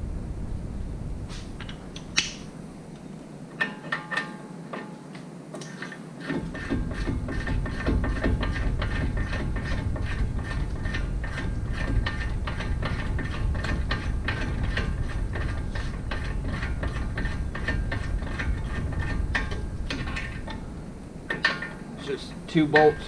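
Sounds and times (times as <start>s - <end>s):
constant low hum: 0.0s - 23.0s.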